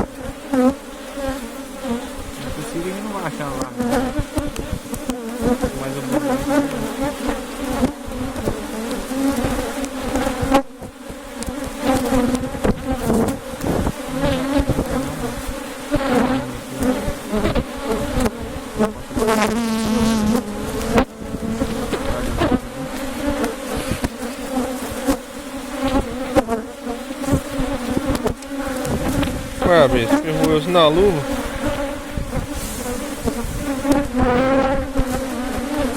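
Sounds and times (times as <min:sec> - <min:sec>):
hive frames knocking: 0:00.0 - 0:35.8
bees buzzing: 0:00.0 - 0:35.9
single bee buzzing close: 0:00.0 - 0:35.9.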